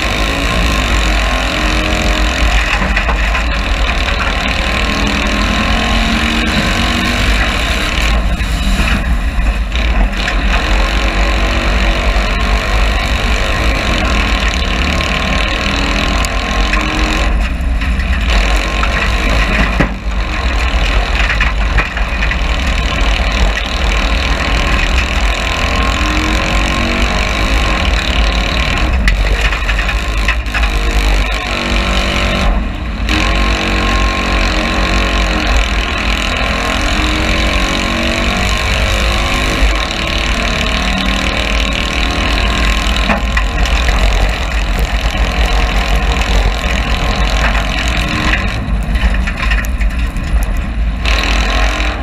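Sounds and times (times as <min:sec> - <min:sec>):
car engine racing: 0:00.0 - 0:52.0.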